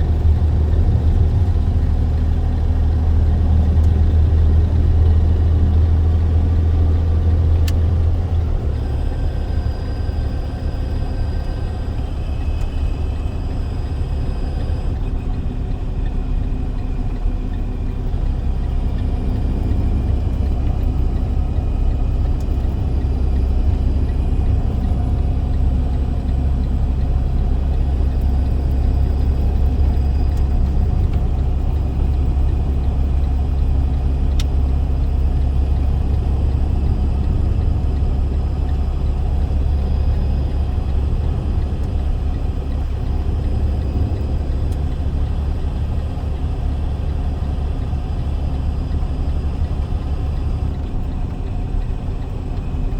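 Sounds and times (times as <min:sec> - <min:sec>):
truck engine and road noise: 0:00.0 - 0:52.9.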